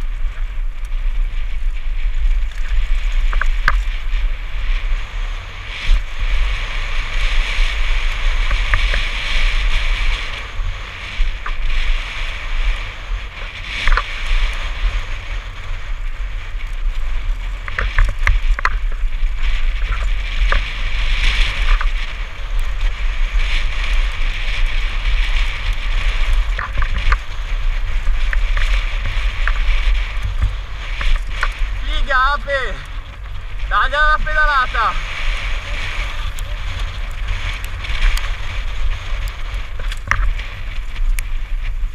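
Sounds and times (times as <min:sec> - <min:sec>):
bike rattles and clicks: 0:00.0 - 0:41.9
bike tyres crunching on gravel: 0:00.0 - 0:41.9
wind buffeting microphone: 0:00.0 - 0:41.9.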